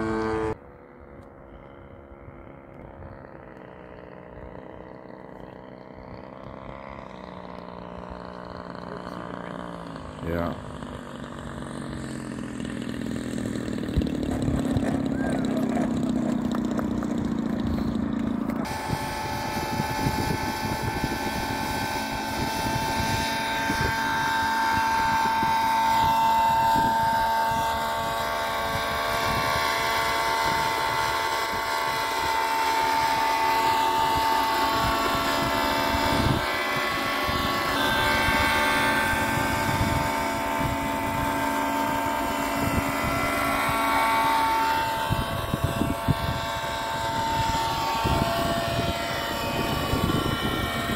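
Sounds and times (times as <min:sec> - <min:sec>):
model biplane engine: 0:00.0 - 0:50.9
model helicopter whine: 0:00.0 - 0:50.9.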